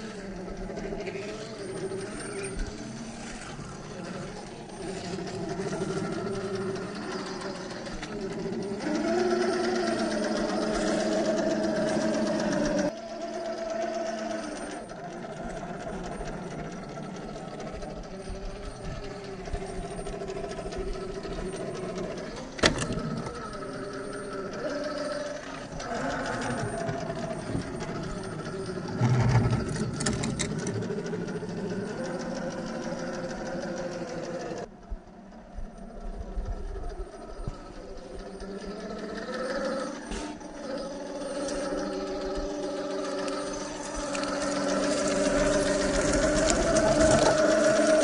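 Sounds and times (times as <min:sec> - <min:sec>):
rc car motor whining: 0:00.0 - 0:48.0.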